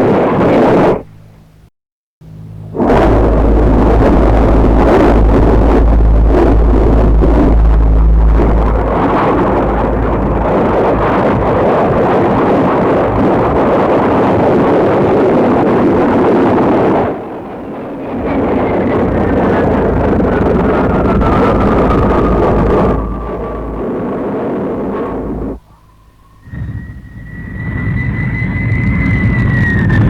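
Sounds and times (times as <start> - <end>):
high falling jet whine: 2.2 - 30.0
jet aircraft roaring overhead: 2.2 - 30.0.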